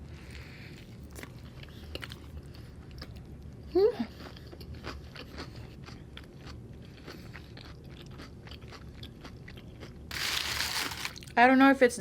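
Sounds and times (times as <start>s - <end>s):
chewing food: 0.2s - 11.4s.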